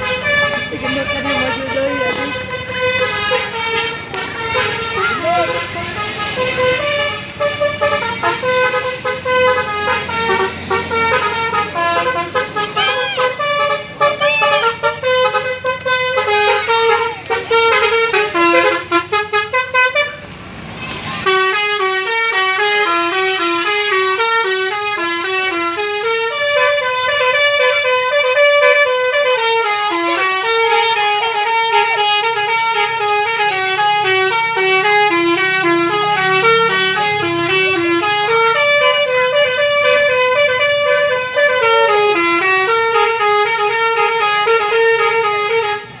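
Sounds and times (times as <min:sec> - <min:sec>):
bus musical horn playing a tune: 0:00.0 - 0:20.3, 0:20.9 - 0:46.0.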